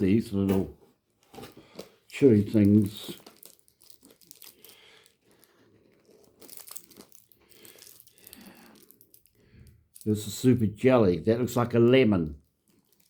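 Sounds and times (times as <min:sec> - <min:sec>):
plastic wrappers crinkling: 0:01.1 - 0:10.5, 0:11.2 - 0:13.0.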